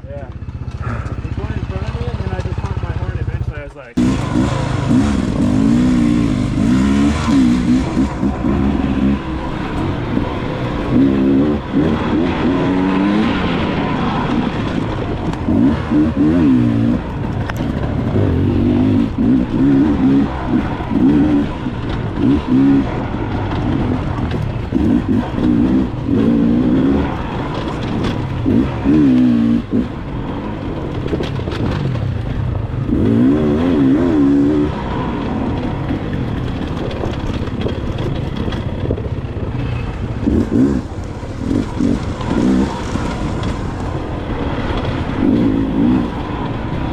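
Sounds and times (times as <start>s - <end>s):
wind and road noise: 0.0s - 46.9s
dirt bike engine revving: 0.4s - 46.9s.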